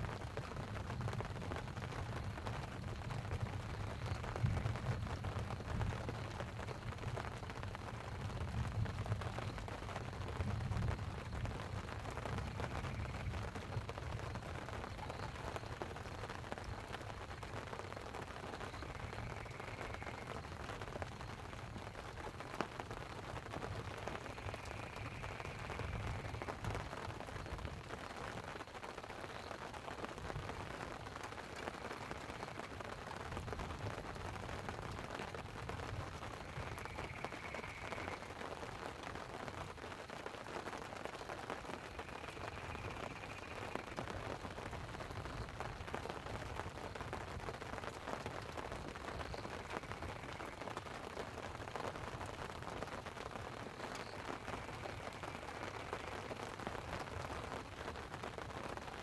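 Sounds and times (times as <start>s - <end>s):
light rain pattering on tent: 0.0s - 59.0s.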